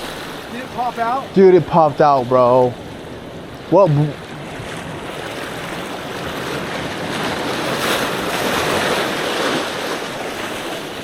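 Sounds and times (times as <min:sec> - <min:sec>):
ocean waves surging: 0:00.0 - 0:11.0.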